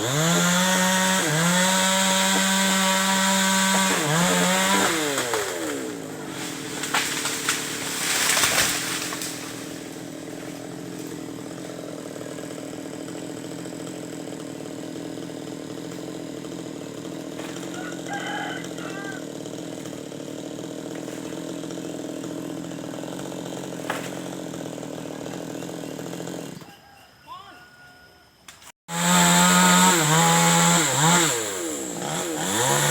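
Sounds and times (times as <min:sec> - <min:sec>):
chainsaw engine idling: 0:00.0 - 0:26.7, 0:28.9 - 0:32.9.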